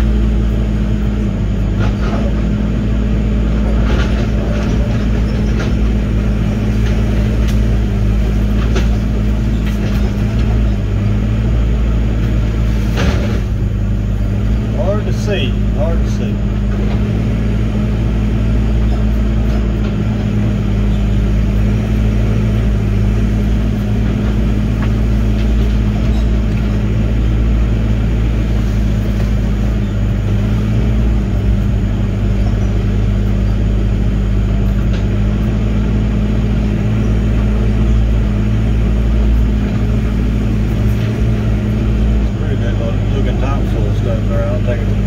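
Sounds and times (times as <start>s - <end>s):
diesel engine running steadily: 0.0s - 45.0s.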